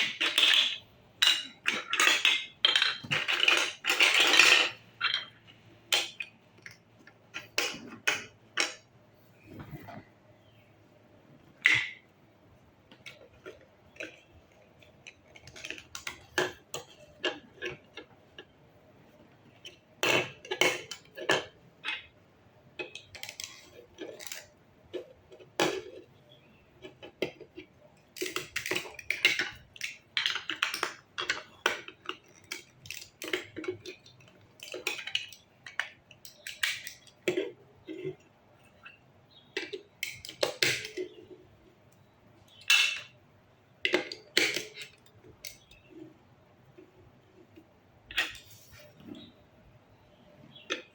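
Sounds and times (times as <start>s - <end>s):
plastic blocks clicking and clattering: 0.0s - 8.9s, 11.6s - 12.1s, 12.9s - 43.2s, 43.8s - 49.3s.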